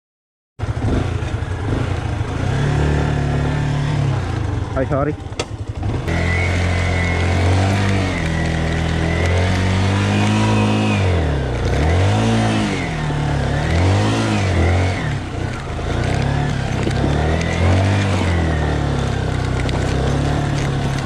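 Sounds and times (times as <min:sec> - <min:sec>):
motorcycle engine revving: 0:00.6 - 0:21.0.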